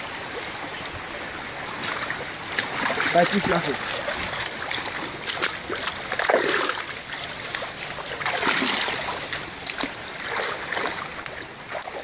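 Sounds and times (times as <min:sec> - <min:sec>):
people wading through water: 0:00.0 - 0:12.0
running water rushing: 0:00.0 - 0:12.0.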